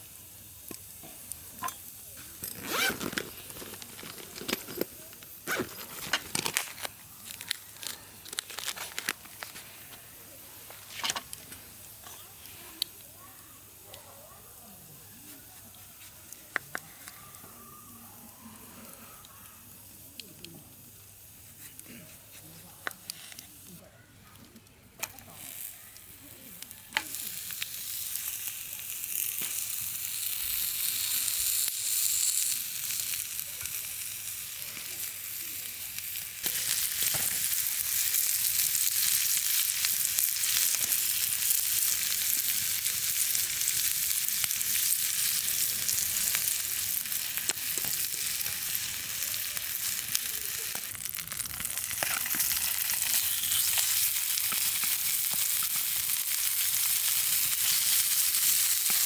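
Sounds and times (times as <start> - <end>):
food sizzling in a pan: 0.0 - 13.9, 25.0 - 59.0.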